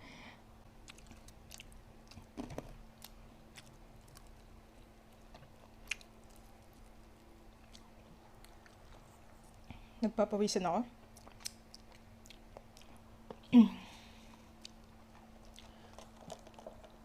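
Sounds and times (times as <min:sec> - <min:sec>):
steady low hum: 0:00.0 - 0:17.0
person chewing and crunching food: 0:00.8 - 0:10.0, 0:11.0 - 0:17.0.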